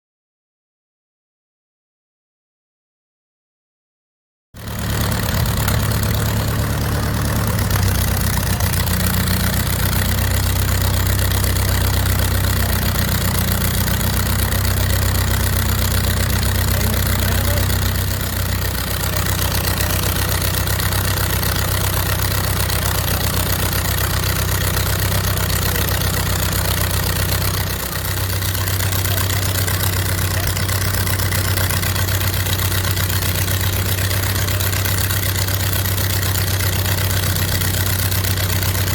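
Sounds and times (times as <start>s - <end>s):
engine idling: 4.6s - 38.9s.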